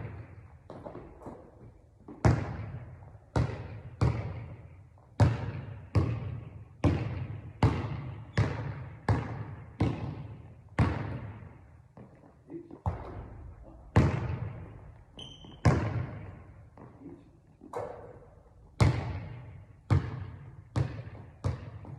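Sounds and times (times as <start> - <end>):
basketball bouncing on court: 0.0 - 17.0, 17.7 - 21.9.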